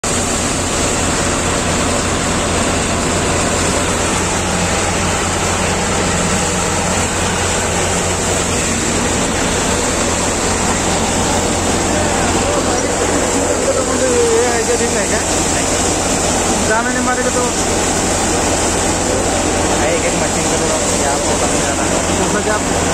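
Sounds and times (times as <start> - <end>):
machinery running: 0.0 - 22.9
tractor diesel engine droning: 0.0 - 22.9.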